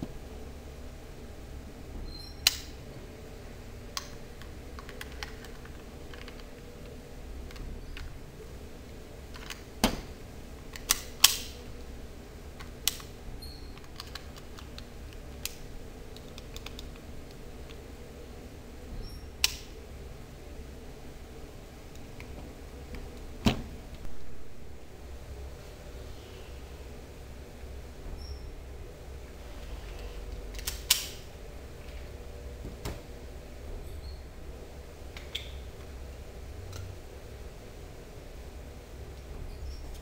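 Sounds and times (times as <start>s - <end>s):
low background hum: 0.0s - 40.0s.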